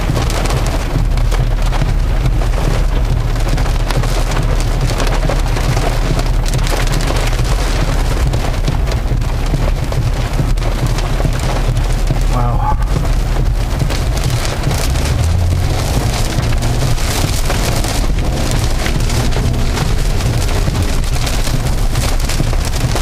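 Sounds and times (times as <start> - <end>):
low road and engine rumble: 0.0 - 23.0
rain pattering on car glass: 0.0 - 23.0.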